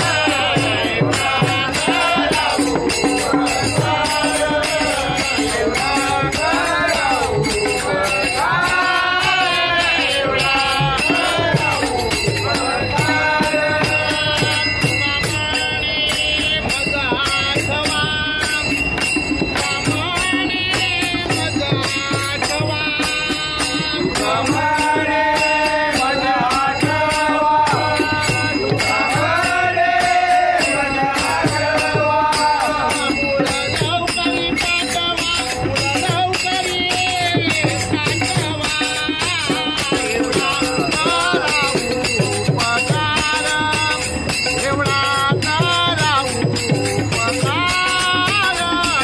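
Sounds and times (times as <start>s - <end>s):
hand cymbals struck: 0.0s - 49.0s
men singing devotional song: 0.0s - 49.0s.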